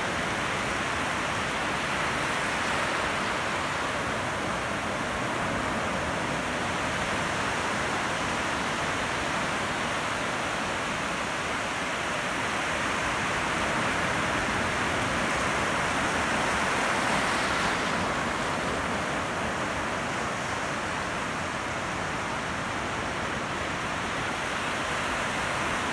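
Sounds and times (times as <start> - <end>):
ocean waves breaking: 0.0 - 10.2, 12.3 - 25.9.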